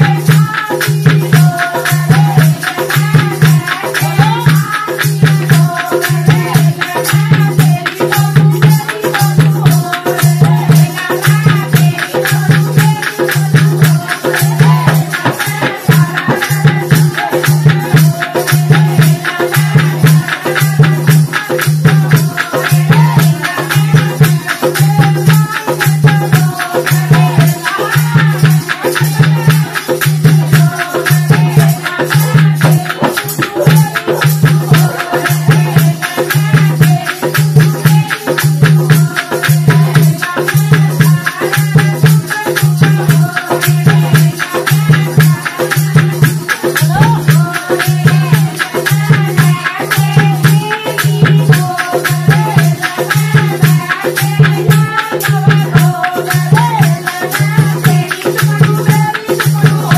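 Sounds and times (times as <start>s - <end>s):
dholak drum beating: 0.0s - 59.9s
women singing in chorus: 0.0s - 59.9s.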